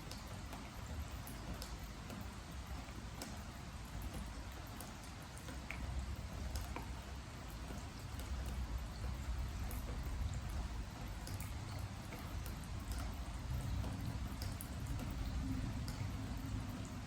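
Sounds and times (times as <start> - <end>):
rain on wooden deck: 0.0 - 17.0
drops ticking: 0.1 - 17.0.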